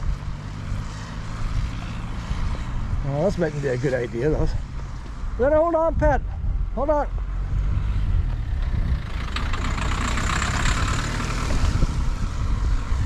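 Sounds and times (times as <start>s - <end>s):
wind buffeting microphone: 1.2s - 10.0s, 11.2s - 13.0s.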